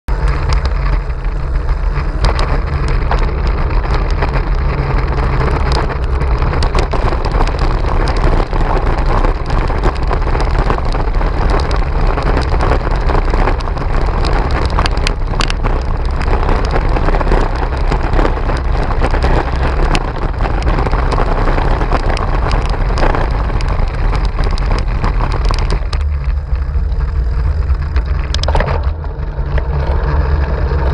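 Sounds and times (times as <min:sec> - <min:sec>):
wind rumbling on microphone: 0:00.0 - 0:30.9
bicycle rattling over cobblestones: 0:00.1 - 0:30.9.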